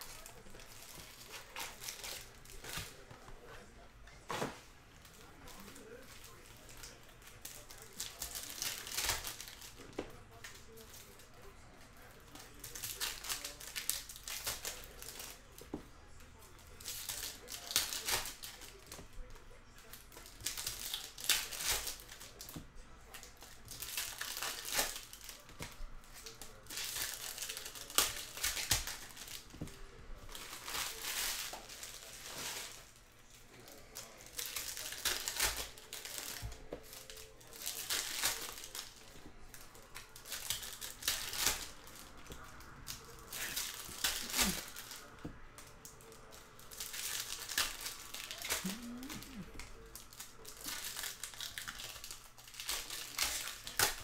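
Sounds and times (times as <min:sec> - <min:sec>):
wrappers crinkling and tearing: 0:00.0 - 0:54.0.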